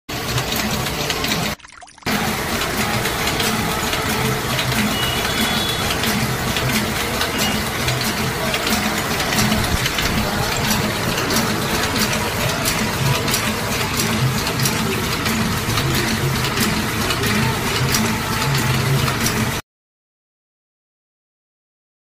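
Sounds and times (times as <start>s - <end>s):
printing press clattering: 0.1s - 19.6s.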